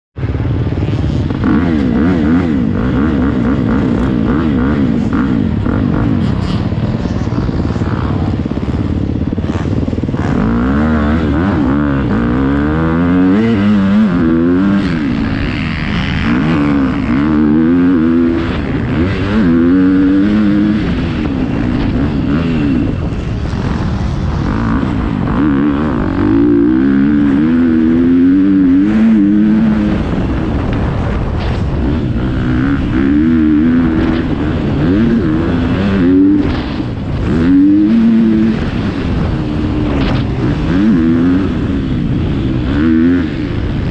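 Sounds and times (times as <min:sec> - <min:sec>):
dirt bike engine revving: 0:00.2 - 0:43.9.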